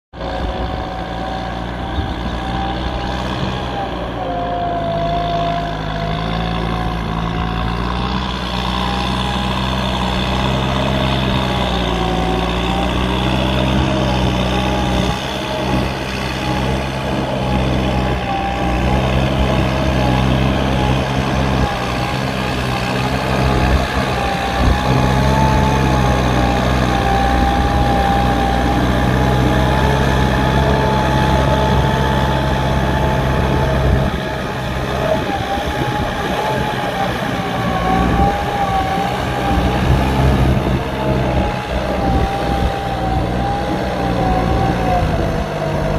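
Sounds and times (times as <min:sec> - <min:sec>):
tractor diesel engine running: 0:00.1 - 0:45.9
wavering whine: 0:00.2 - 0:45.9.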